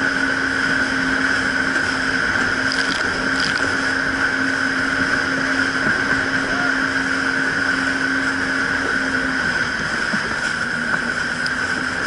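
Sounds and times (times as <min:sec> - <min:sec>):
jet ski engine running: 0:00.0 - 0:12.0
water rushing and spraying: 0:00.0 - 0:12.0.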